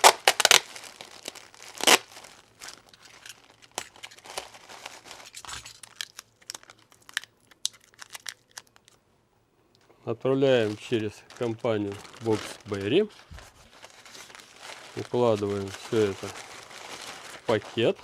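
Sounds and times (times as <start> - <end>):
packaging crinkling and rustling: 0.0 - 9.0, 10.4 - 18.0.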